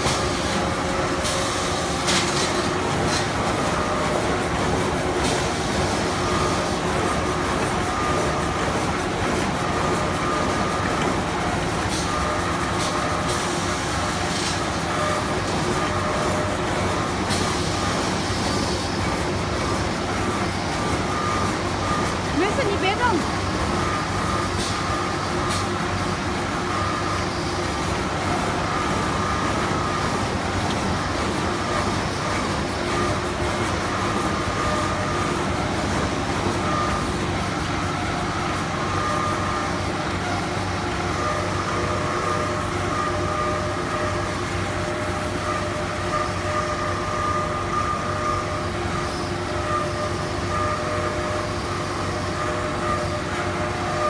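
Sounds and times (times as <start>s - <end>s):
machine mechanical drone: 0.0s - 54.0s.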